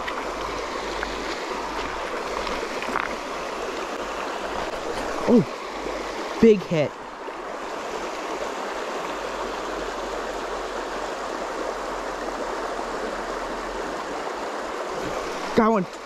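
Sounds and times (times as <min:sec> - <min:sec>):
river water rushing over stones: 0:00.0 - 0:16.0.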